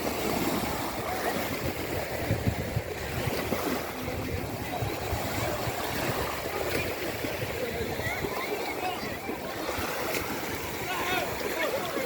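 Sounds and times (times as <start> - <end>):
water sloshing and splashing: 0.0 - 12.0
wind buffeting microphone: 0.0 - 12.0.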